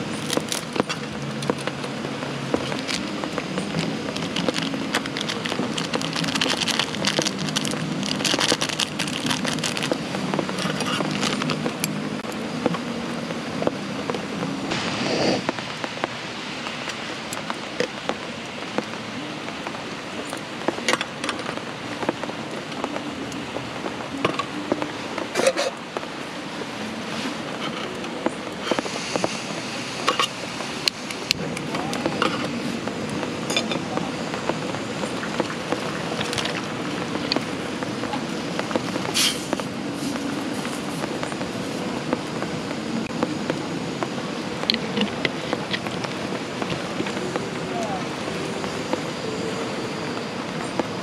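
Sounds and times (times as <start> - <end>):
rain pattering: 0.0 - 51.0.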